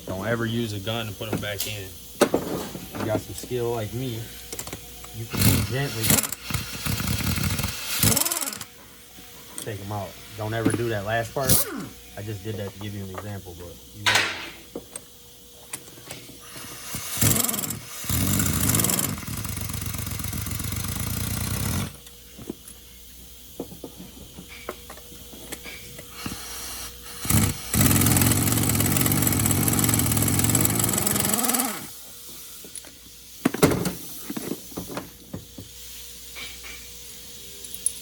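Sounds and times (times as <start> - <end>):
pneumatic impact gun running: 1.2 - 8.8, 9.5 - 22.8, 24.5 - 36.9.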